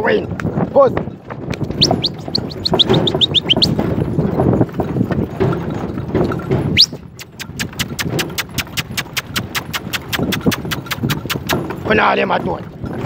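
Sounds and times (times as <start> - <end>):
cart rattling rumble: 0.0 - 13.0
hooves clip-clopping: 0.0 - 13.0.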